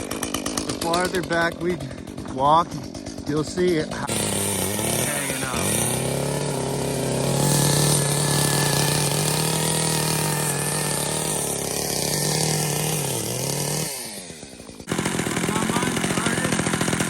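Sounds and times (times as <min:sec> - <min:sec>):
chainsaw running at high speed: 0:00.0 - 0:17.0.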